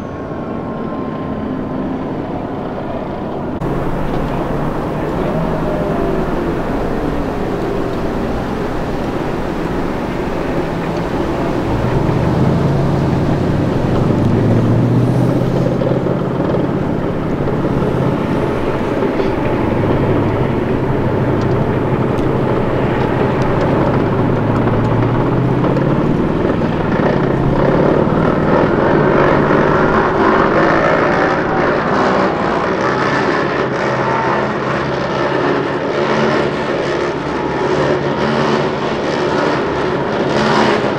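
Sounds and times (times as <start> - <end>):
diesel engines running: 0.0 - 40.9
tracked vehicle engine and tracks: 0.0 - 40.9.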